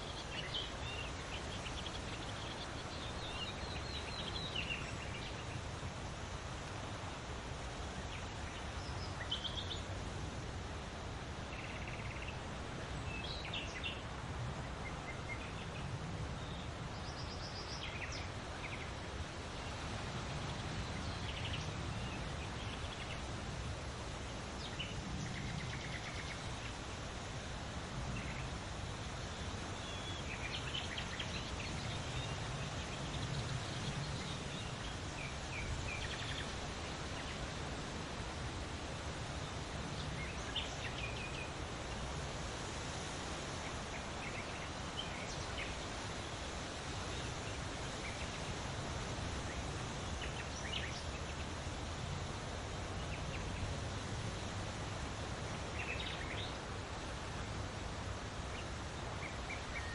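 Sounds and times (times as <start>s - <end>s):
outdoor hiss and low rumble: 0.0s - 59.9s.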